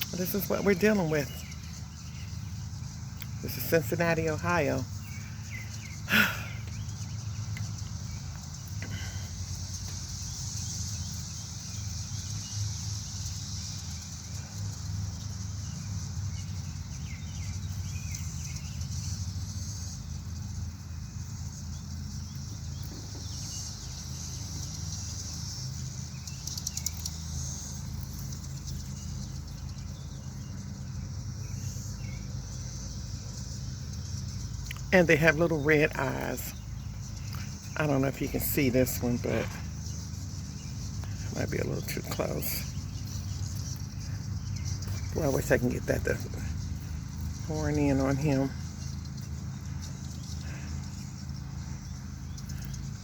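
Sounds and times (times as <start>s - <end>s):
cicadas droning: 0.0s - 53.0s.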